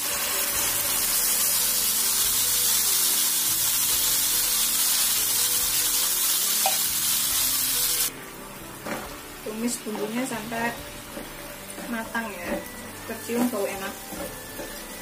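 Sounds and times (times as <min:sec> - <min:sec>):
spice paste sizzling in oil: 0:00.0 - 0:15.0.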